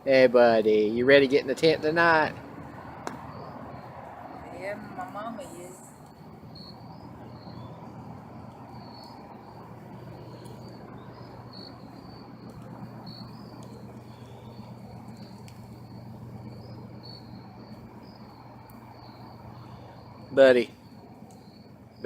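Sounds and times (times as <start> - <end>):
crickets chirping: 0.0 - 22.0
low steady hum: 0.0 - 22.0.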